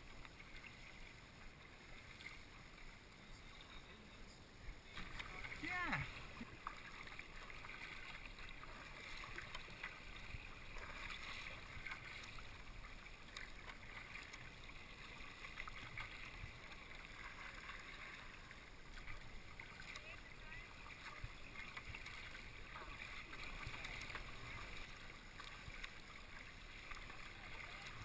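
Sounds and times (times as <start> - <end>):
water trickling around kayak: 0.0 - 28.0.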